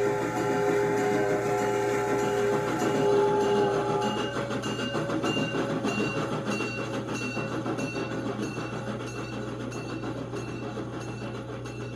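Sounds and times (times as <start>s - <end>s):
model train rolling on track: 0.0s - 11.9s.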